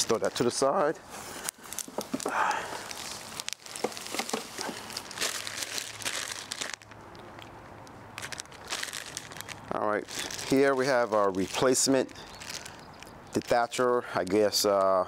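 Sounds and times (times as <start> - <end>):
plastic packaging crinkling: 1.4 - 7.2, 8.2 - 15.0.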